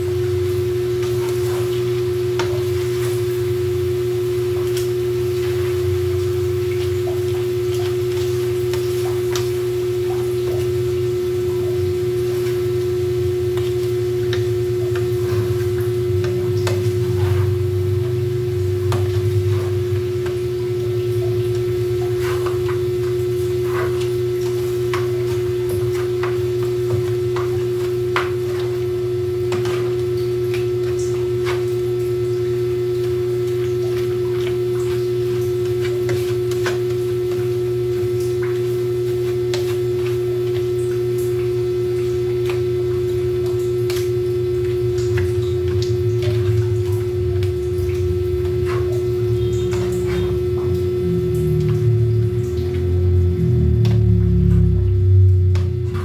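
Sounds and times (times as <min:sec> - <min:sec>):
wooden spatula stirring in a pan: 0:00.0 - 0:54.5
steady hum: 0:00.0 - 0:56.0.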